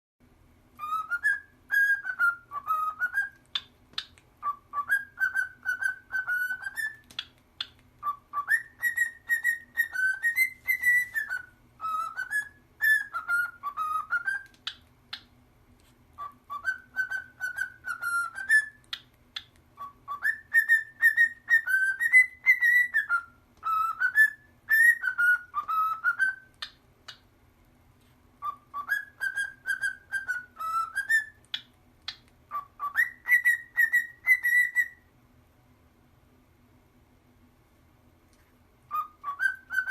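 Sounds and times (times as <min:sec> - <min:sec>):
faint low hum: 0:00.2 - 0:39.9
parrot whistling a tune: 0:00.7 - 0:15.3, 0:16.2 - 0:27.2, 0:28.4 - 0:35.1, 0:38.8 - 0:39.9.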